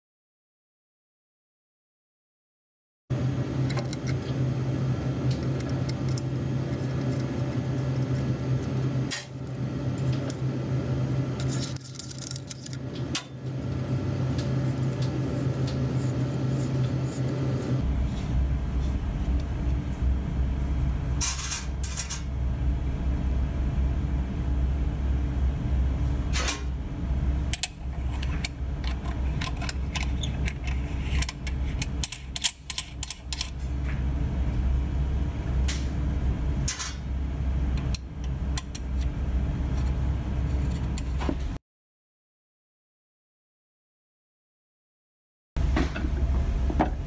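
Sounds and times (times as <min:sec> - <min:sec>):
cabinet fan humming: 0:03.1 - 0:41.6.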